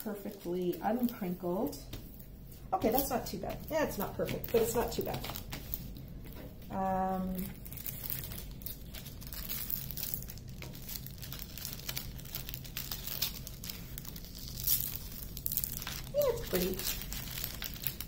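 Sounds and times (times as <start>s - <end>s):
canvas and plastic film crinkling: 0.0s - 18.0s.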